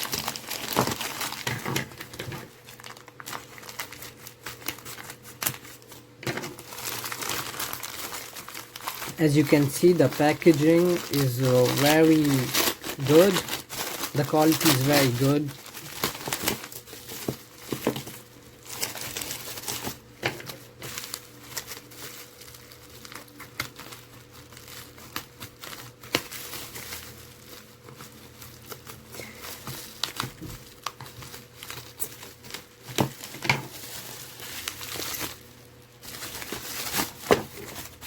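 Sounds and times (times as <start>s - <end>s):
packaging crinkling and rustling: 0.0s - 38.0s.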